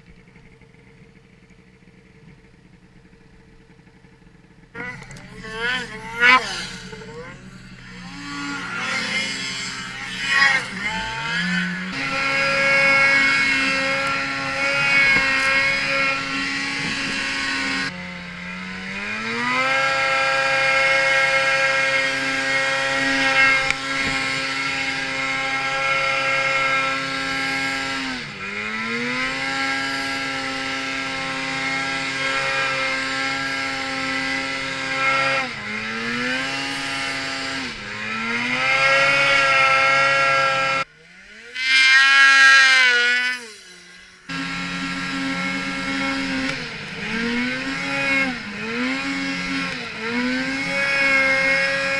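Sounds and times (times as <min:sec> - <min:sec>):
snowmobile engine revving: 0:00.0 - 0:51.9.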